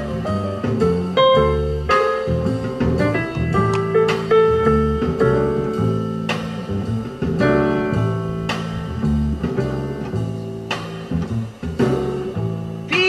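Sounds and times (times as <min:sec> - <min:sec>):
bass line: 0:00.0 - 0:13.0
guitar: 0:00.0 - 0:13.0.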